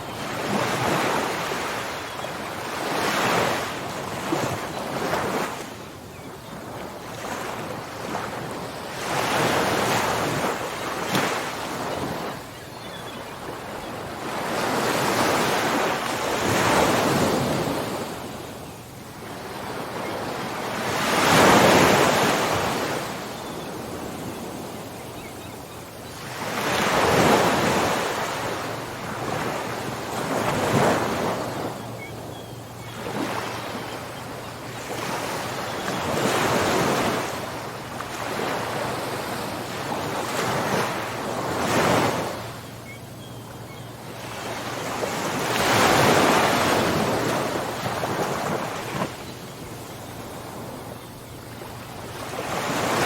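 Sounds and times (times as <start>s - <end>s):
ocean waves breaking on shore: 0.0s - 53.0s.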